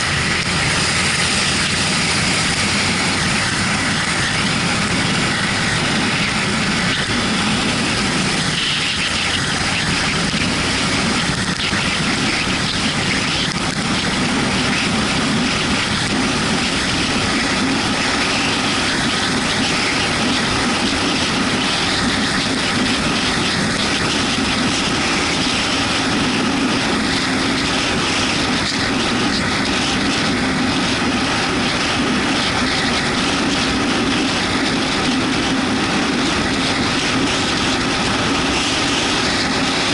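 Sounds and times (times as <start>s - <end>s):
motorcycle engine running: 0.0s - 39.9s
wind and rain hiss: 0.0s - 39.9s.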